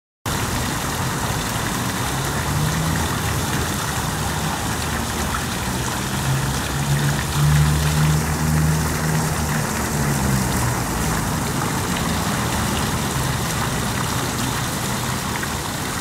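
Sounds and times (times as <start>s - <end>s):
fountain water splashing: 0.3s - 16.0s.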